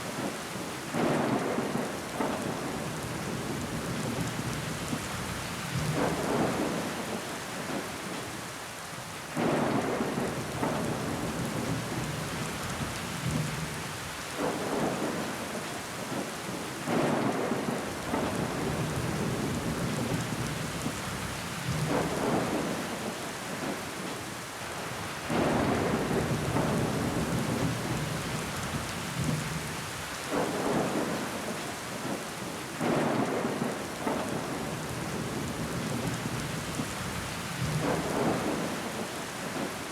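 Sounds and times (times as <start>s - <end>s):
rain on window glass: 0.0s - 39.9s.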